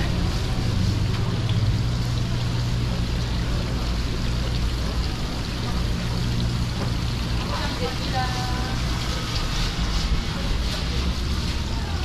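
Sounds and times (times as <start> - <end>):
low hum of pumps: 0.0 - 12.0
street noise: 0.0 - 12.0
water running in tanks: 0.0 - 12.0.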